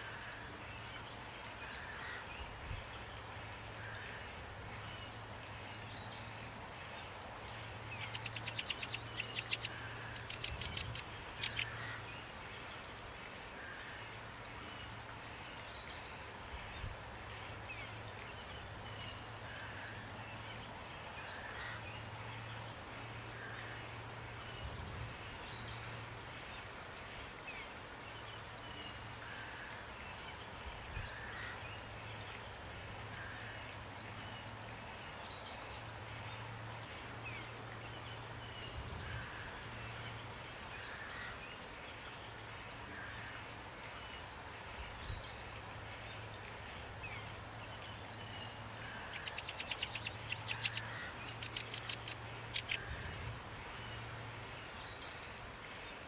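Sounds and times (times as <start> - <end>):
rain falling: 0.0 - 56.0
songbirds chirping and trilling: 0.0 - 56.0.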